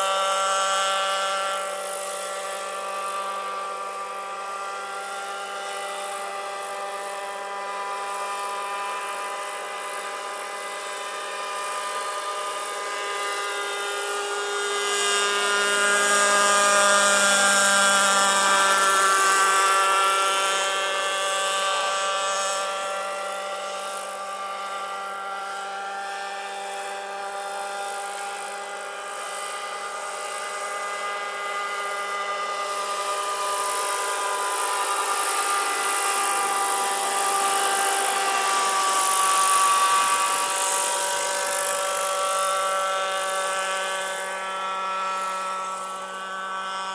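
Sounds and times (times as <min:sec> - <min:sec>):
model helicopter buzzing: 0:00.0 - 0:46.9.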